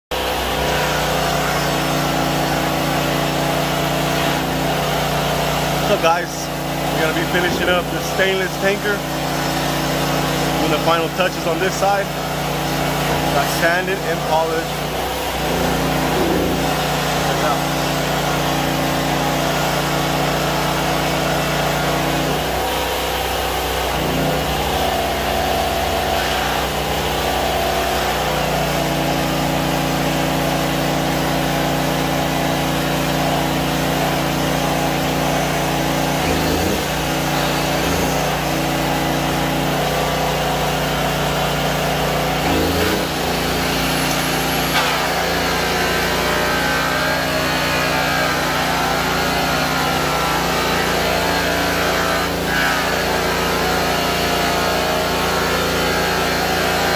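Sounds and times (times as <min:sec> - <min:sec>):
polishing machine motor hum: 0:00.2 - 0:56.9.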